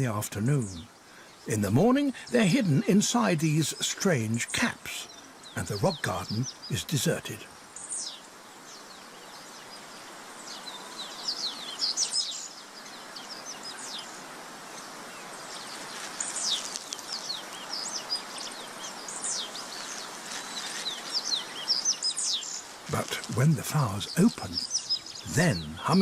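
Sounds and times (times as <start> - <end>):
outdoor background hiss: 0.0 - 26.0
small birds chirping: 0.0 - 26.0.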